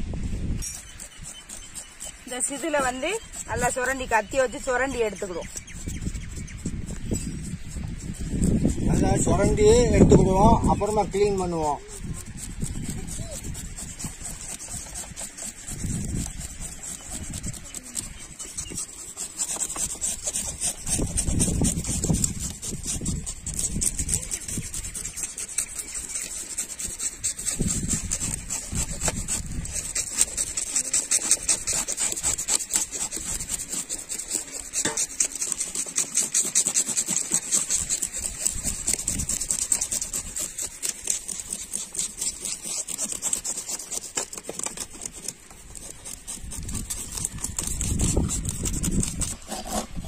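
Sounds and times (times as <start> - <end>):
knife scraping fish scales: 0.4 - 50.0.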